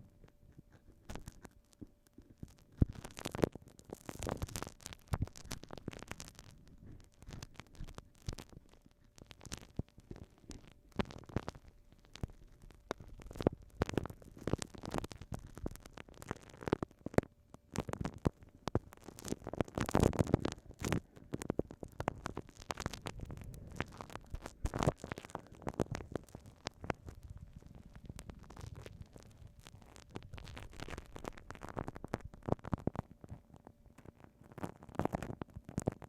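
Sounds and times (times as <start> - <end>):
glue stick sticky crackling: 0.2 - 33.1.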